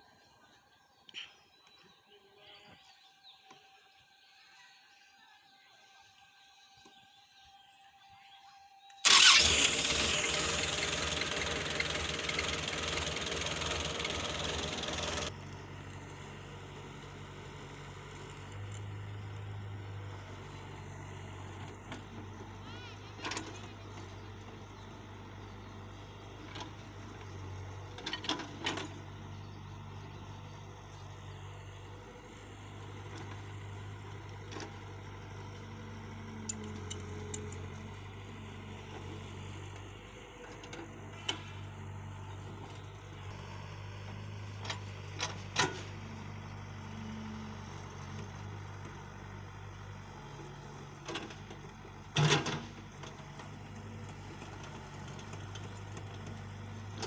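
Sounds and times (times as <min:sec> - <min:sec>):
excavator engine humming: 0:09.0 - 0:57.0.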